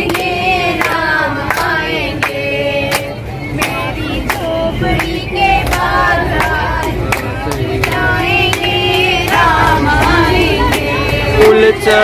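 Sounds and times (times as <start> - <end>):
hand-clapping: 0.0 - 11.6
group singing devotional song: 0.0 - 12.0.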